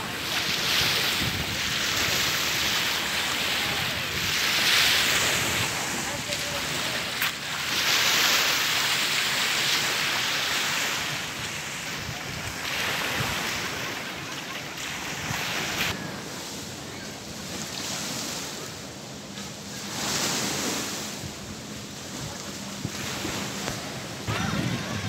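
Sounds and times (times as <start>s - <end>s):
lake waves washing on rocky shore: 0.0s - 16.8s, 19.8s - 25.0s
wind: 0.0s - 25.0s.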